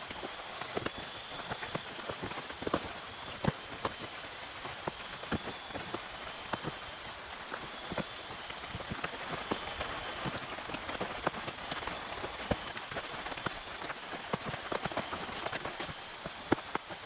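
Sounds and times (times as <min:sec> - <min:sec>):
rain on a tent: 0:00.0 - 0:17.0.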